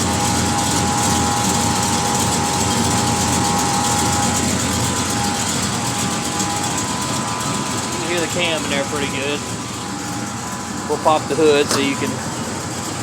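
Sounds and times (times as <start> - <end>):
car engine idling with choppy lope: 0.0 - 13.0
steady high whine: 0.0 - 13.0.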